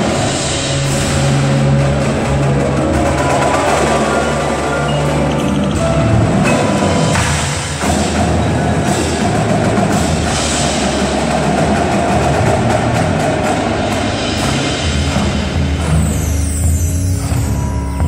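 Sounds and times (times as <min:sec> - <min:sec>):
drums and cymbals: 0:00.0 - 0:18.0
marimbas: 0:00.0 - 0:18.0.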